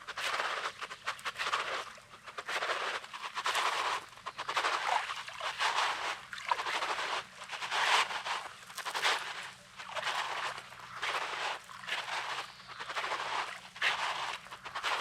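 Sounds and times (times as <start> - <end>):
footsteps crunching on pebbly sand: 0.1 - 15.0.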